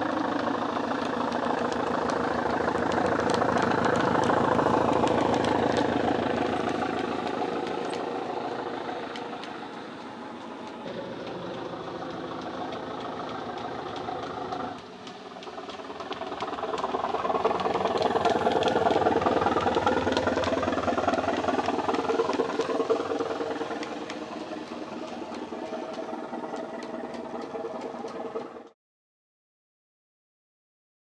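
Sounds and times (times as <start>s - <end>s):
diesel engine sound from small speaker: 0.0s - 28.8s.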